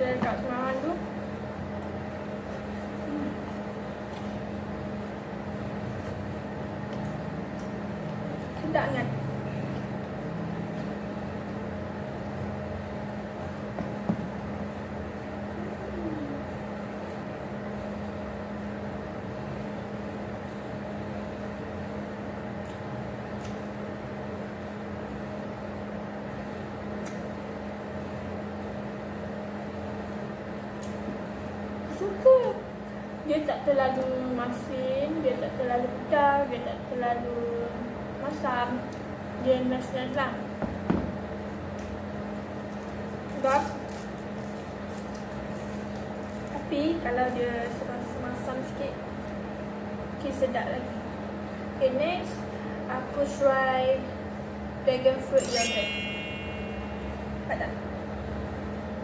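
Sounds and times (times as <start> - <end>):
mechanical hum: 0.0 - 59.0.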